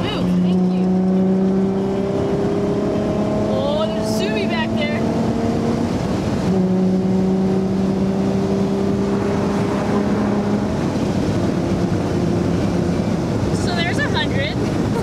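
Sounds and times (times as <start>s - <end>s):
car engine droning: 0.0s - 15.0s
road and wind noise: 0.0s - 15.0s.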